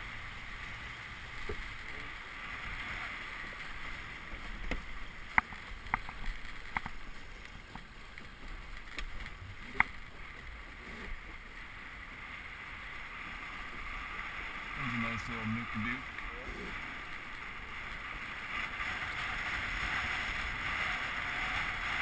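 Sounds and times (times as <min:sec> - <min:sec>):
rush of water and wind: 0:00.0 - 0:22.0.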